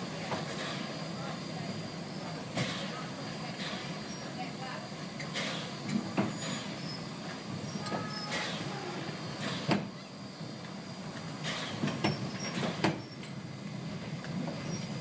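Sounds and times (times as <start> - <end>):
steam train rumbling: 0.0 - 15.0.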